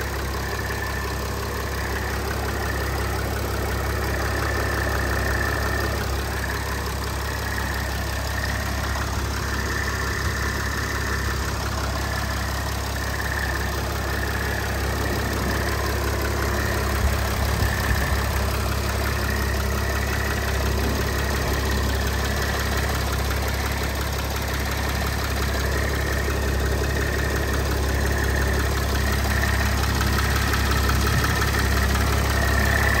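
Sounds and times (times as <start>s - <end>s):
diesel engine idling: 0.0s - 33.0s
engine knock: 0.0s - 33.0s.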